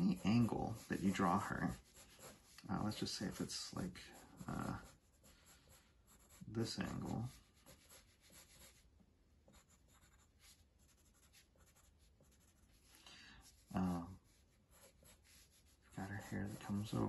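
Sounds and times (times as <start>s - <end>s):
pencil scratching on paper: 0.0s - 17.0s.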